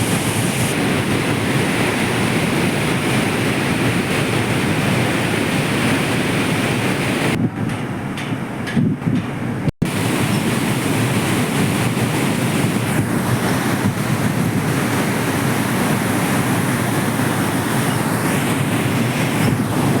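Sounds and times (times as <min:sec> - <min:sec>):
water rushing through dam gates: 0:00.0 - 0:08.6, 0:09.8 - 0:20.0.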